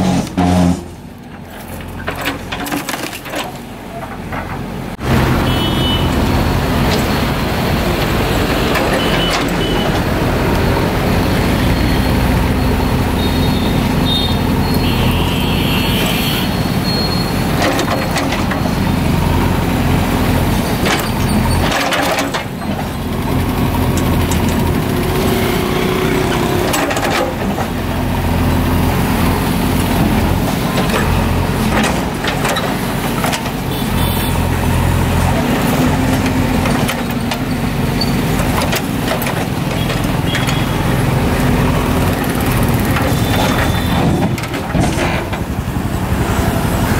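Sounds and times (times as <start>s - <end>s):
diesel engine running hard: 4.4s - 46.9s.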